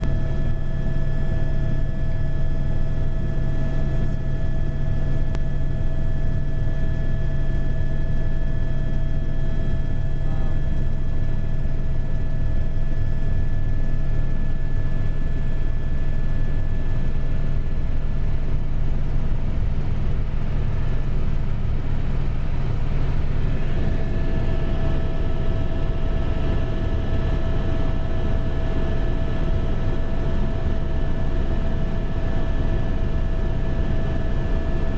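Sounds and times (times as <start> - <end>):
helicopter low drone: 0.0 - 34.9.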